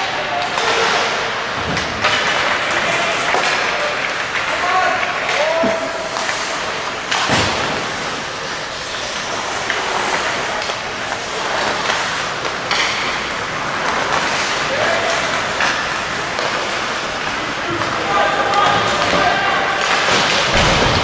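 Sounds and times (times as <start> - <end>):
hockey sticks and puck clacking: 0.0 - 21.0
skates scraping ice: 0.0 - 21.0.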